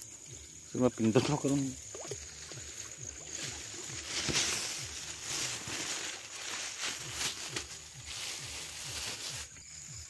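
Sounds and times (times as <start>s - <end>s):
high insect hum: 0.0s - 10.0s
splashing in shallow water: 1.0s - 9.4s.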